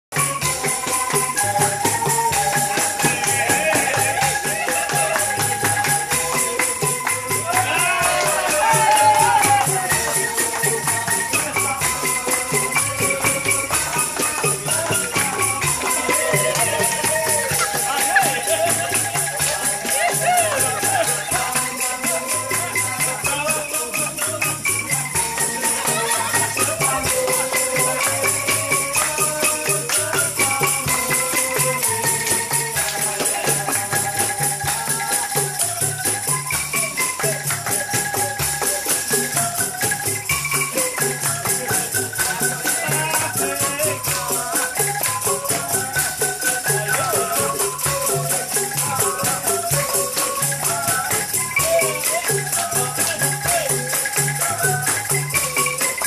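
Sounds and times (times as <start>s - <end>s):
upbeat music with fast beat: 0.1s - 56.0s.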